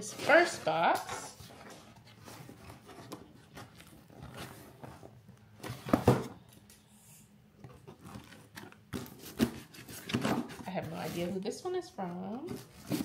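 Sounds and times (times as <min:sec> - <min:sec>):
cardboard package rustling: 0:00.0 - 0:06.4, 0:07.8 - 0:11.5, 0:12.4 - 0:13.0.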